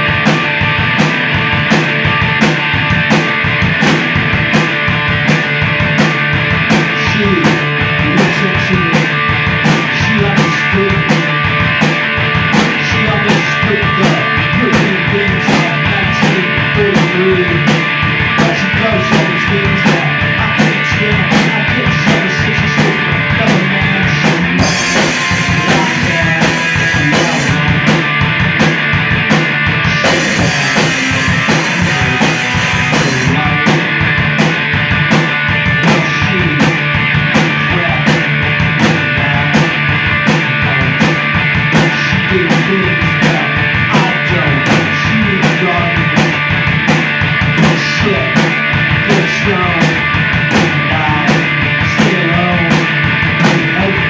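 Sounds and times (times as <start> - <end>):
drum kit beat: 0.0 - 54.0
guitar: 0.0 - 54.0
rock band playing live: 0.0 - 54.0.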